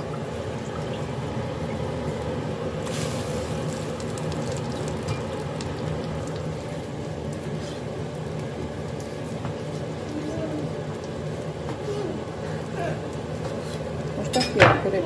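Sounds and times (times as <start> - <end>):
gas burner rumble: 0.0 - 15.0
pot bubbling: 0.0 - 15.0.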